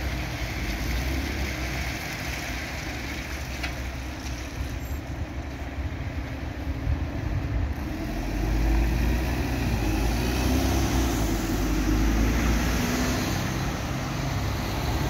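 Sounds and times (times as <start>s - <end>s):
diesel bus driving past: 0.0s - 15.0s.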